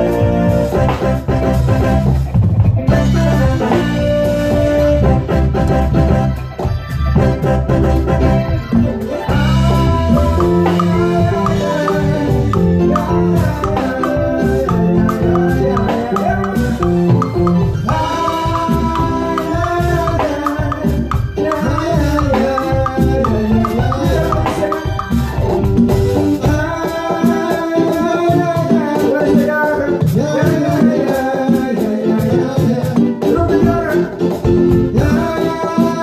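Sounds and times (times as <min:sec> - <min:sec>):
band playing latin music: 0:00.0 - 0:36.0
bass: 0:00.0 - 0:36.0
electronic conga and bongo hits: 0:00.0 - 0:36.0
keyboard: 0:00.0 - 0:36.0.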